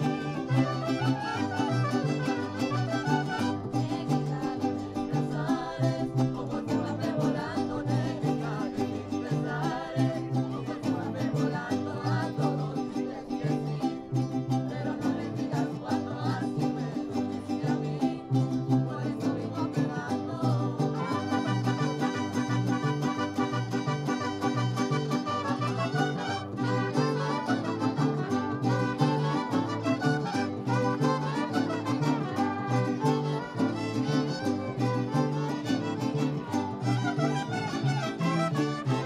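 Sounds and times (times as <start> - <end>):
mariachi band playing: 0.0 - 39.0.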